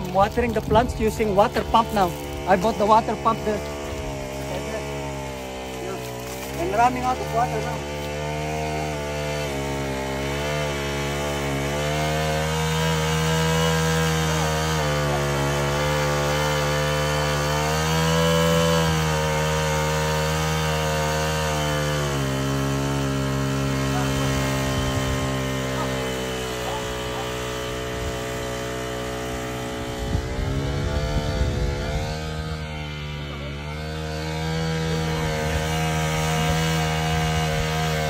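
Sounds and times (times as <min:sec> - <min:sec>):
water pump engine running: 0:00.0 - 0:38.0.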